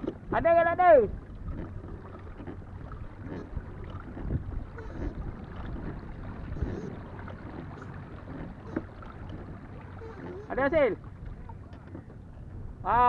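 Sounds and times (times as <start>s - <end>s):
faint splashes: 0.0s - 12.9s
water lapping around kayak: 0.0s - 13.0s.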